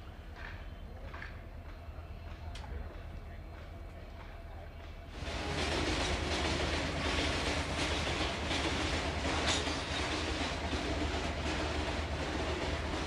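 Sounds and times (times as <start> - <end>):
freight train rumbling past: 0.0 - 13.0
steel wheels clacking over rail joints: 0.3 - 13.0.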